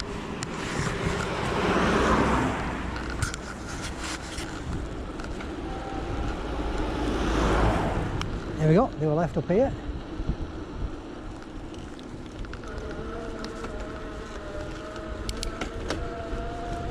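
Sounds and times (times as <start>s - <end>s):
cars passing: 0.0s - 16.9s
steady low rumble: 0.0s - 16.9s.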